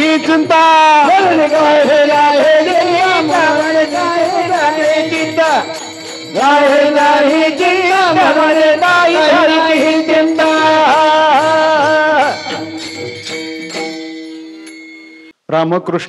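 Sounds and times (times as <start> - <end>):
person singing wordless melody: 0.0 - 13.9
small hand cymbals clashing: 0.0 - 15.4.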